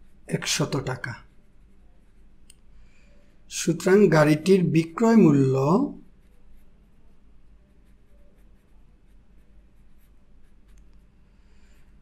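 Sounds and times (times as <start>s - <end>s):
pen scratching on paper: 0.0s - 2.4s, 3.2s - 12.0s.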